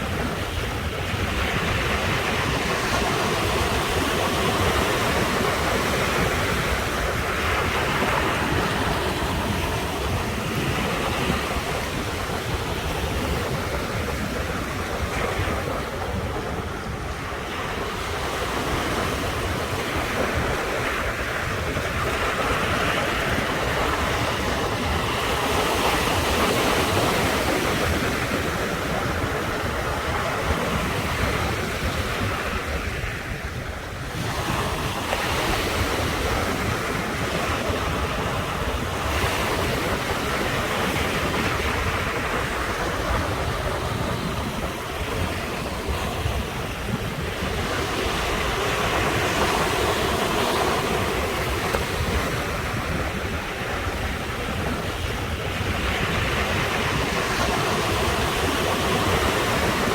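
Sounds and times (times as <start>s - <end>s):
waves breaking on shore: 0.0s - 59.9s
wind buffeting microphone: 0.0s - 59.9s.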